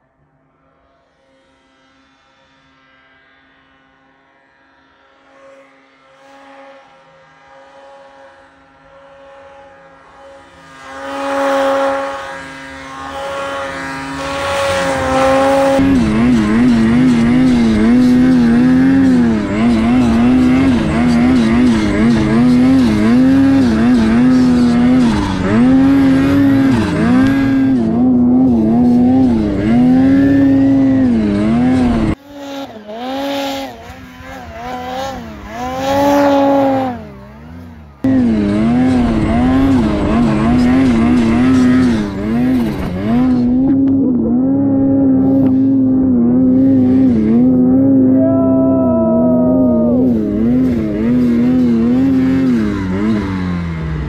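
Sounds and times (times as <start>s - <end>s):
snowmobile engine revving: 6.2s - 54.0s.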